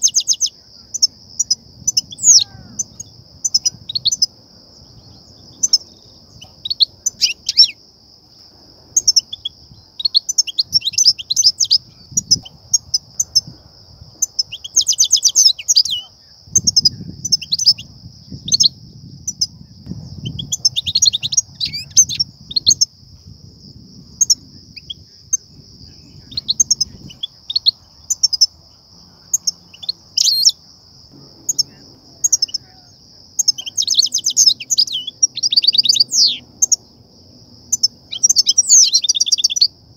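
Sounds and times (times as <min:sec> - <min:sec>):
goldfinches chirping and twittering: 0:00.0 - 0:07.8, 0:08.4 - 0:22.9, 0:24.2 - 0:37.0, 0:37.6 - 0:39.7
high-pitched hiss: 0:00.0 - 0:39.9.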